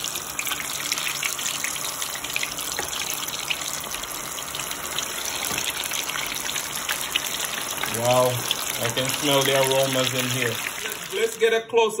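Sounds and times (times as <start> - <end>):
chicken frying in oil: 0.0 - 11.6.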